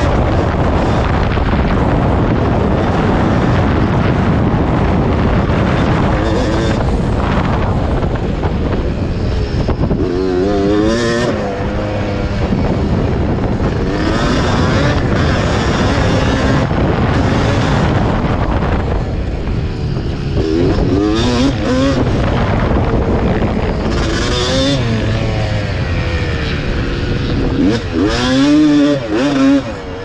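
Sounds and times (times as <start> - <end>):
dirt bike engine revving: 0.0 - 30.0
wind noise: 0.0 - 30.0.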